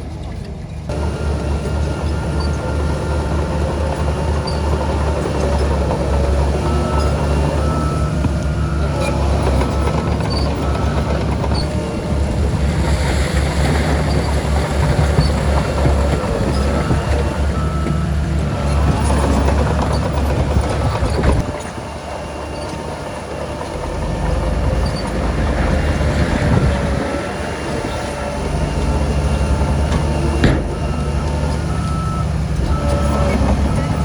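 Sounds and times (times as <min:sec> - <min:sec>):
deep diesel engine rumble: 0:00.0 - 0:34.0.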